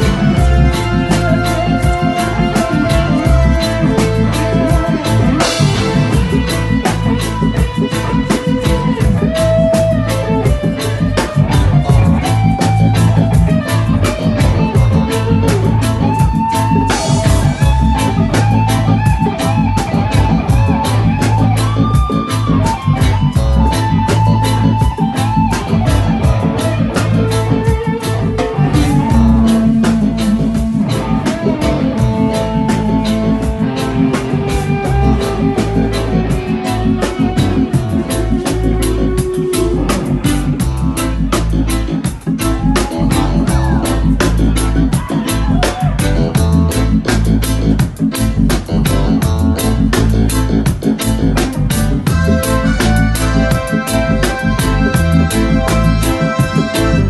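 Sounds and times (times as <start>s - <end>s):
electric guitar bending notes: 0.0s - 57.0s
instrumental band music: 0.0s - 57.0s
steady drum beat: 0.0s - 57.0s.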